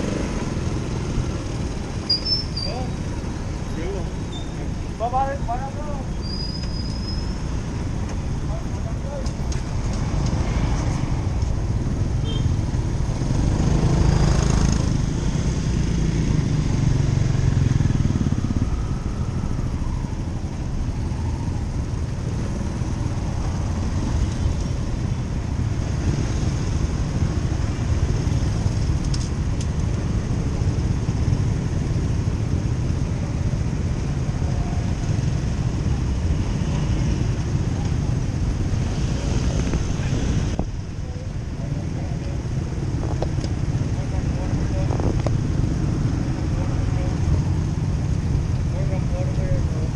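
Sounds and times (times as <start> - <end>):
motorcycle engine rumble: 0.0 - 49.9
road and wind noise: 0.0 - 49.9.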